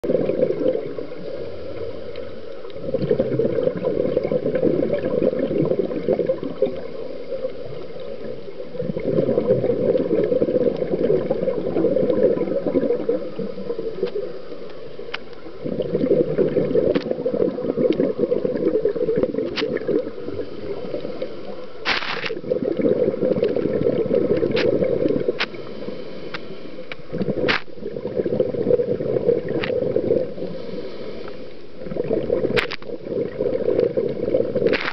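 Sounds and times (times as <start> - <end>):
scuba bubbles underwater: 0.0 - 34.9.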